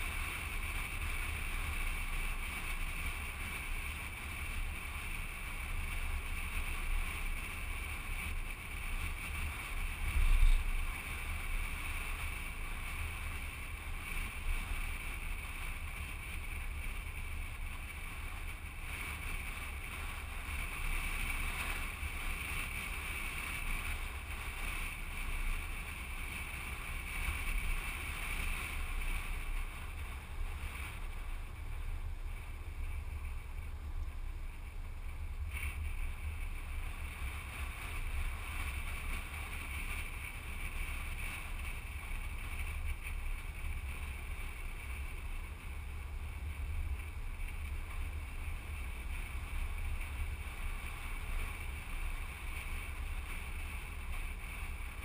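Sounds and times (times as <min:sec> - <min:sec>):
road and engine rumble: 0:00.0 - 0:55.0
wind rushing over microphone: 0:00.0 - 0:55.0.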